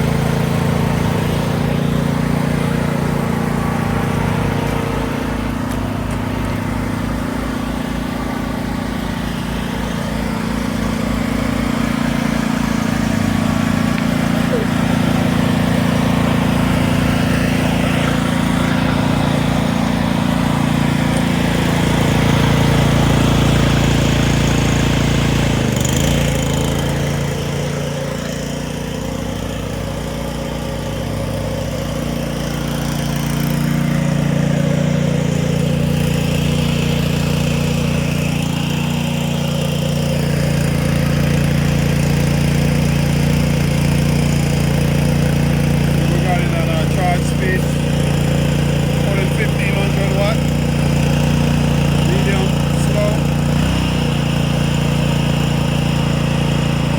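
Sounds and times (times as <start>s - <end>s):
inverter generator running: 0.0s - 56.9s.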